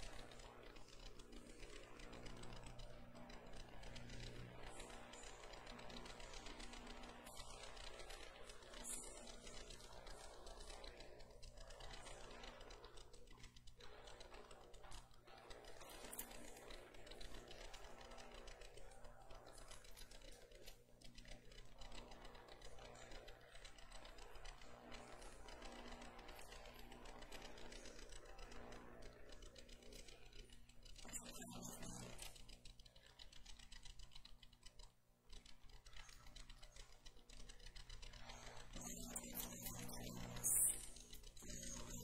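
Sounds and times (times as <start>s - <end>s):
faint small clicks: 0.0s - 42.0s
low steady hum: 0.0s - 42.0s.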